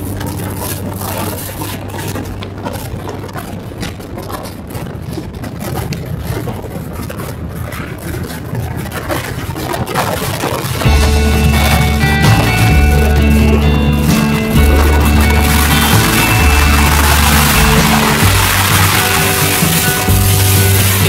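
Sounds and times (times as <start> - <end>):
motorcycle engine rumbling: 0.0 - 21.0
steady noisy rush: 0.0 - 21.0.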